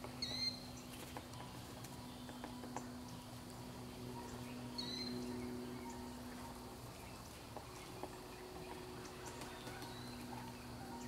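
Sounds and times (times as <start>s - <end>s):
low hum: 0.0s - 11.0s
small bird chirping: 0.1s - 11.0s.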